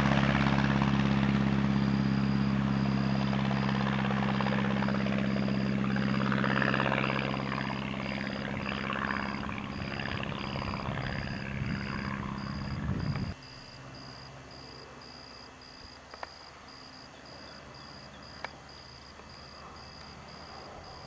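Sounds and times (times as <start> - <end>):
propeller airplane droning overhead: 0.0 - 21.0.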